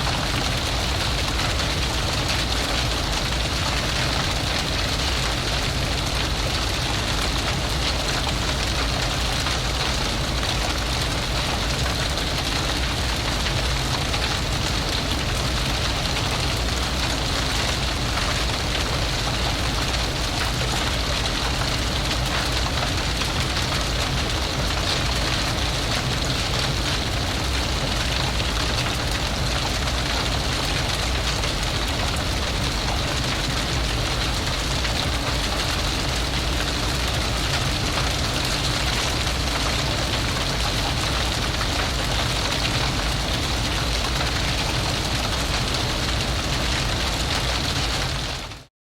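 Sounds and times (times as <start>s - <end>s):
fire crackling and hissing: 0.0s - 48.6s.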